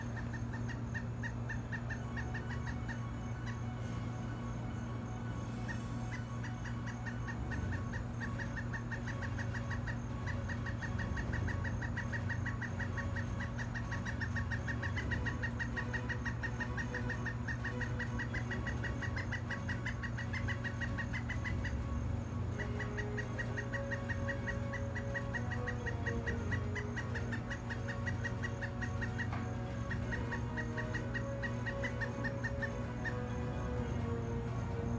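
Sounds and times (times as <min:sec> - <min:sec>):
woodpecker calling: 0:00.0 - 0:34.9.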